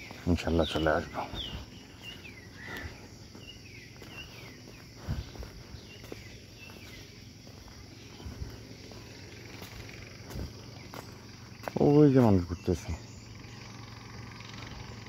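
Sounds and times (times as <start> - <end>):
footsteps on path: 0.0 - 13.8
bird chirping: 0.0 - 15.0
insects droning: 0.0 - 15.0.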